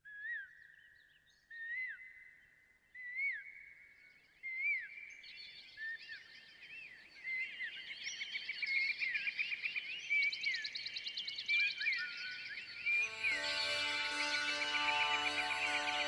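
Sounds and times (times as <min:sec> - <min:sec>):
birds singing: 0:03.0 - 0:16.0.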